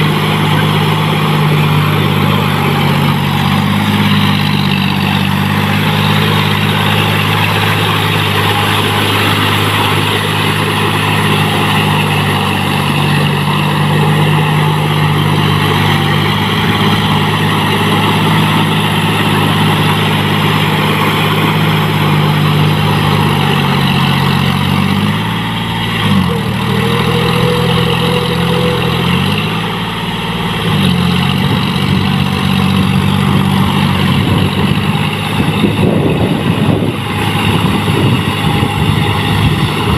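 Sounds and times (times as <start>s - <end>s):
tractor diesel engine running: 0.0s - 39.9s
wheels churning through mud: 0.0s - 39.9s.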